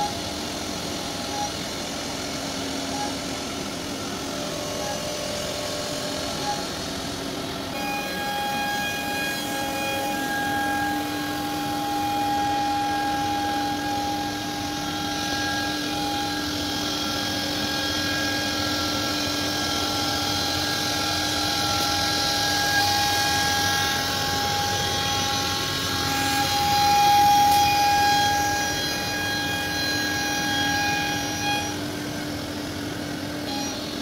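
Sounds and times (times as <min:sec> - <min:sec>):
router spindle whine: 0:00.0 - 0:34.0.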